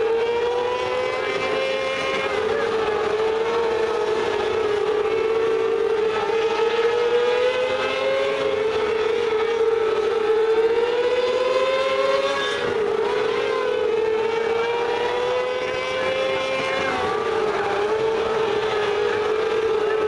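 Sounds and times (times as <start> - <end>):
race car engines at high revs: 0.0 - 20.0.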